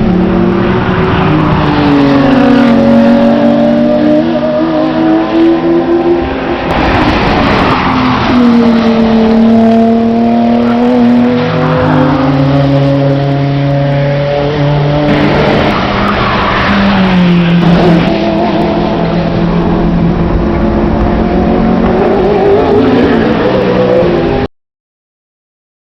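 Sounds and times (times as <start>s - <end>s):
racing car engines passing: 0.0s - 24.5s.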